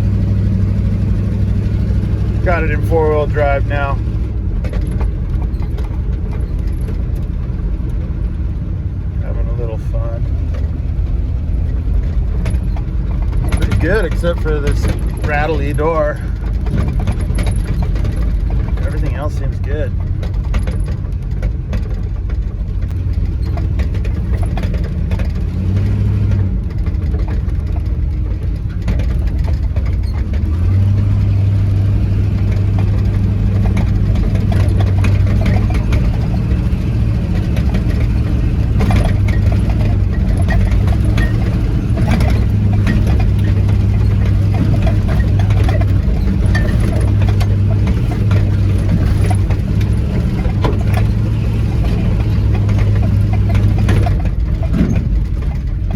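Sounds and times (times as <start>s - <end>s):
body knocks and rattles: 0.0s - 9.0s, 9.9s - 55.9s
pickup truck engine droning: 0.0s - 55.9s.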